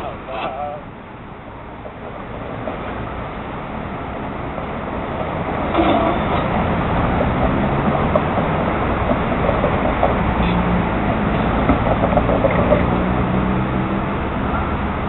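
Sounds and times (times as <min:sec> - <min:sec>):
low rumble of vehicles: 0:00.0 - 0:15.0.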